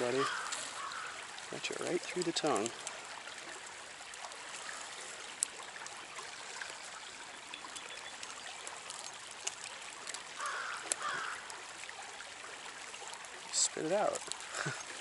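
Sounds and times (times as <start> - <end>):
stream trickling: 0.0 - 15.0.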